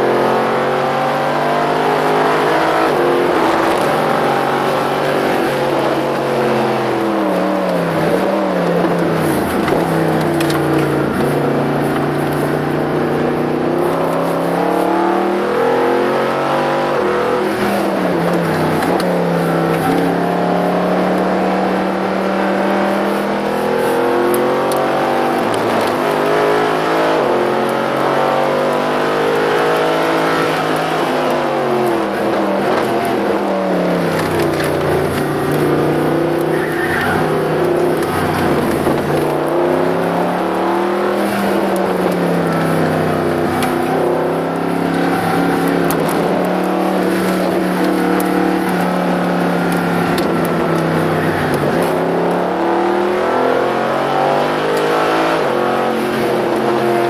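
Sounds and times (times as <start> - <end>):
car engine accelerating and braking: 0.0 - 57.0.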